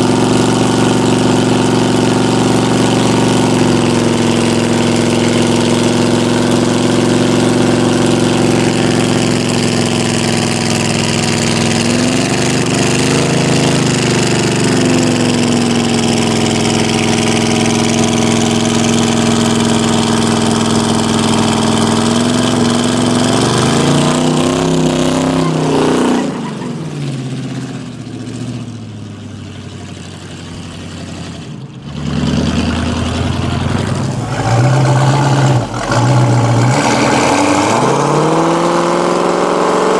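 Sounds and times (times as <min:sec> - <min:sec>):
car engine revving high: 0:00.0 - 0:28.8, 0:30.5 - 0:39.9.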